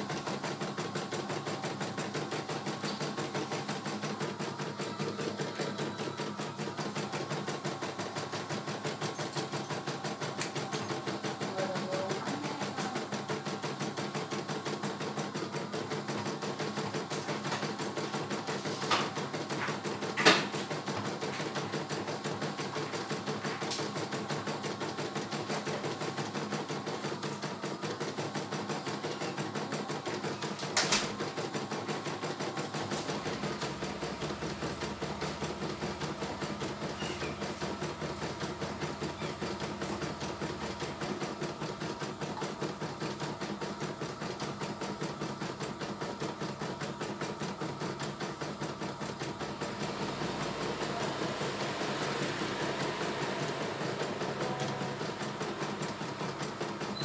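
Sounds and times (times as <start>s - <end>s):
embroidery machine needle stitching: 0.0s - 57.0s.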